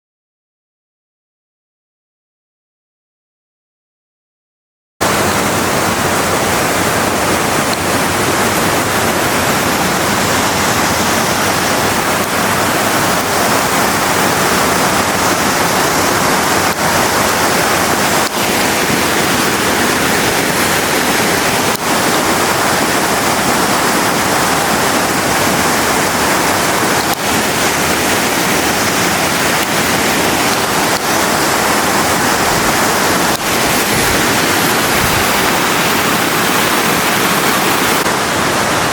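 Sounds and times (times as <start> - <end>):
waterfall rushing: 5.0 - 38.9.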